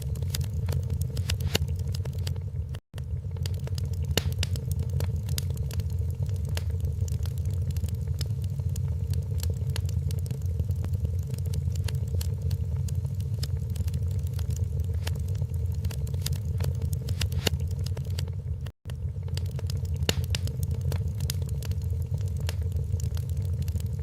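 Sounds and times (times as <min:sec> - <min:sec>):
fire snaps and pops: 0:00.0 - 0:24.0
low steady fire rumble: 0:00.0 - 0:24.0
wood fire crackling: 0:00.0 - 0:24.0.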